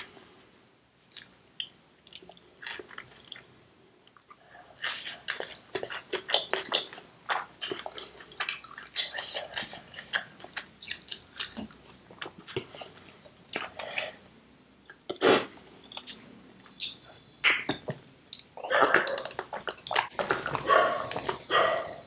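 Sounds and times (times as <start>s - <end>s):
mouth chewing food: 1.1s - 14.2s, 14.9s - 21.8s.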